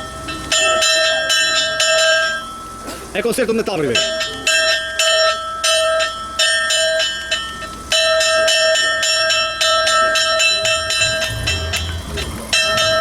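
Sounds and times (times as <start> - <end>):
church bell pealing: 0.0 - 13.0.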